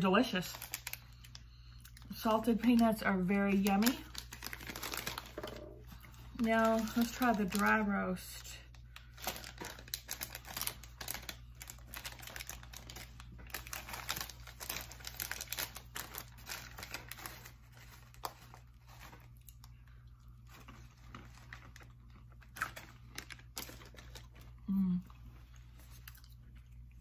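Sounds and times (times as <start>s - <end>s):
snack bag crinkling and tearing: 0.0s - 27.0s.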